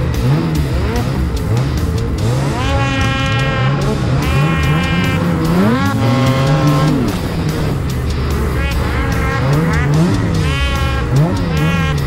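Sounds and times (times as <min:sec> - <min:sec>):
snowmobile engines revving: 0:00.0 - 0:12.0.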